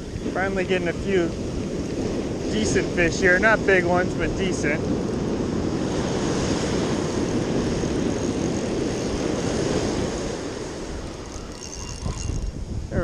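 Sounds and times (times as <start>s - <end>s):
breaking surf: 0.0s - 12.5s
wind rumbling on microphone: 0.0s - 13.0s.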